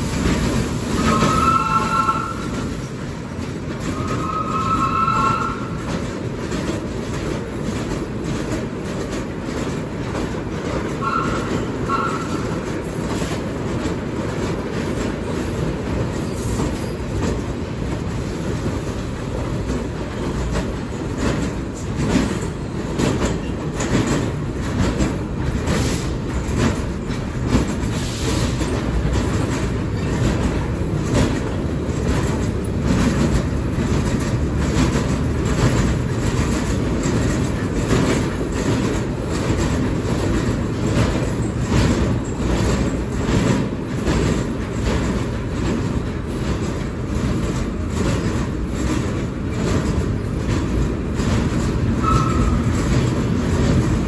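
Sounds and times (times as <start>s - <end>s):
subway car rumble: 0.0s - 54.0s
wheels clicking over rail joints: 0.0s - 54.0s.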